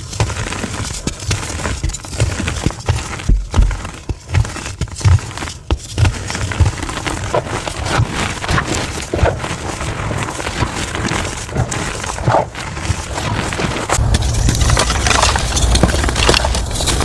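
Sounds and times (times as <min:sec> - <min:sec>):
chalk crunching and crackling: 0:00.0 - 0:17.0.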